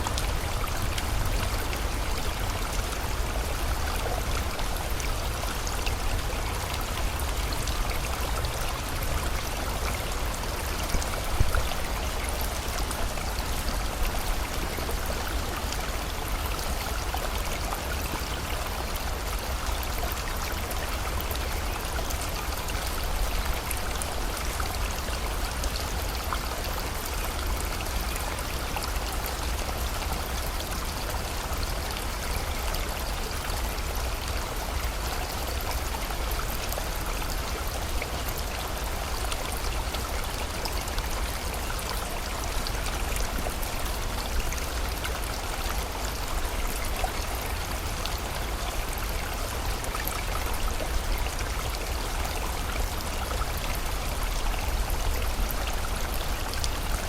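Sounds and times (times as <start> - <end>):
rain falling: 0.0 - 57.0
river flowing: 0.0 - 57.0.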